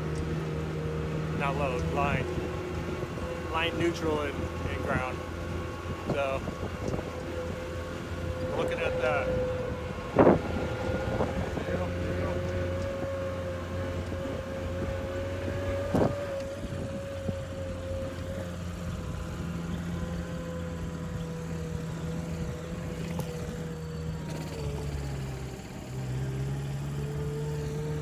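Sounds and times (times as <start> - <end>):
small engine humming and whining: 0.0 - 28.0.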